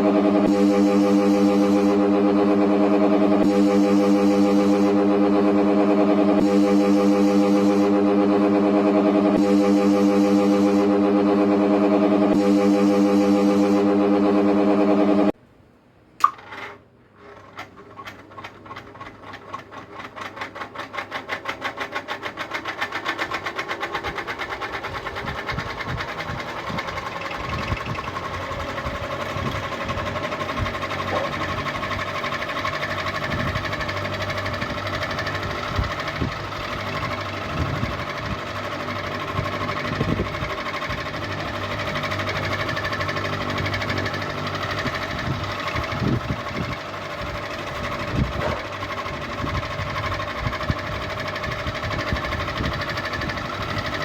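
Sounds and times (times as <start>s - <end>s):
ceiling fan pulsing whir: 0.0s - 54.0s.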